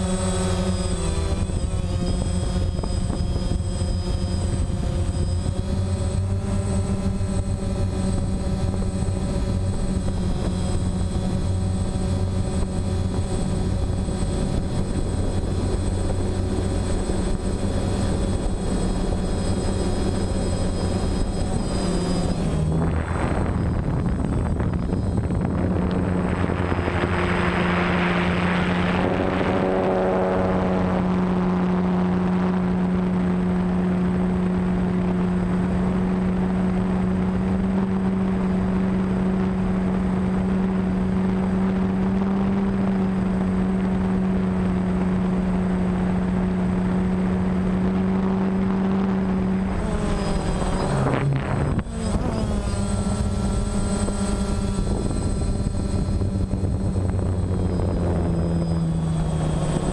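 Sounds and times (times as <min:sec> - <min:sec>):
drone propellers droning: 0:00.0 - 0:59.9.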